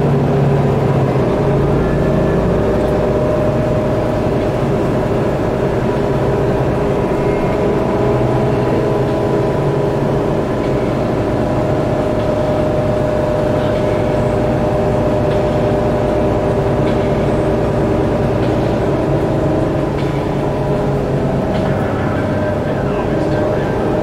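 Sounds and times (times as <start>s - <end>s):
bus diesel engine droning: 0.0s - 24.0s
gearbox whine: 0.0s - 24.0s.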